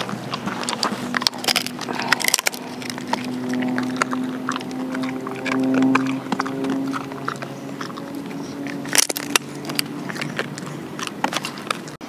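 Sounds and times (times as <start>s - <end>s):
dog chewing a toy: 0.0s - 12.0s
steady low tone: 0.0s - 12.0s.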